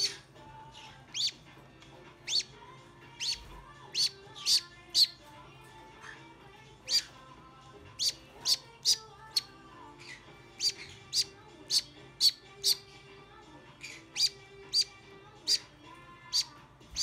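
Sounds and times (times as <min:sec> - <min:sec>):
parrot chick begging chirps: 0:00.0 - 0:07.3, 0:07.9 - 0:17.0.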